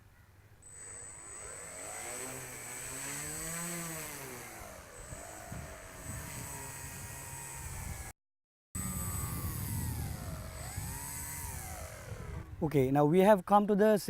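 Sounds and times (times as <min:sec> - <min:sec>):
model plane motor and propeller: 0:00.6 - 0:08.1, 0:08.8 - 0:12.6
thin high whine: 0:00.6 - 0:08.1, 0:08.8 - 0:12.6.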